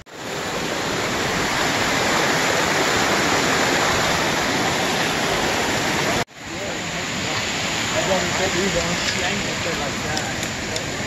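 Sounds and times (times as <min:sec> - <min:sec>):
whitewater rushing over rocks: 0:00.1 - 0:11.0.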